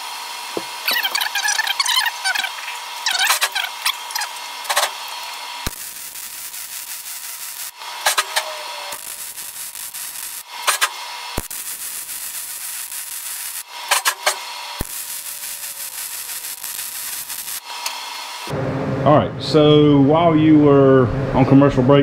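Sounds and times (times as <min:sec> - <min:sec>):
arc welding crackling hiss: 0:00.0 - 0:18.5.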